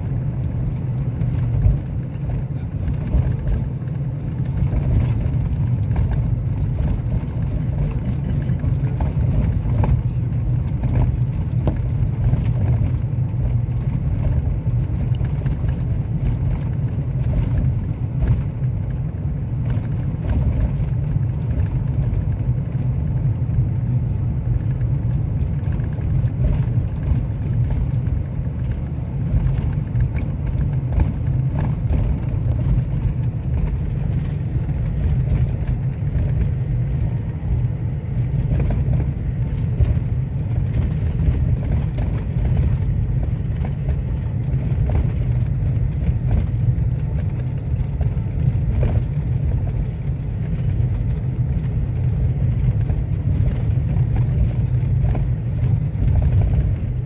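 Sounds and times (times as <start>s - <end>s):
vehicle interior road rumble: 0.0s - 57.0s.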